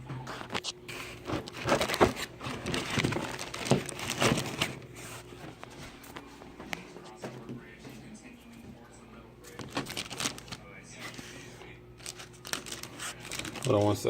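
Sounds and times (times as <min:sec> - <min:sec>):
plastic and paper crinkling: 0:00.2 - 0:07.3, 0:09.4 - 0:14.0.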